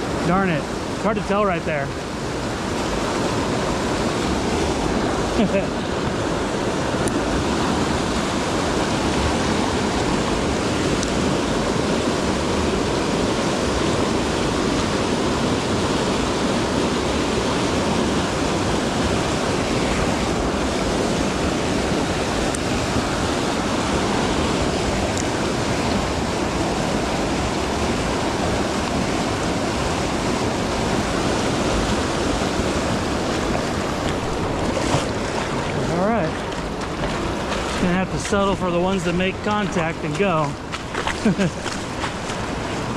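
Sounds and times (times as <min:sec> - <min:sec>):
rushing river water: 0:00.0 - 0:42.9.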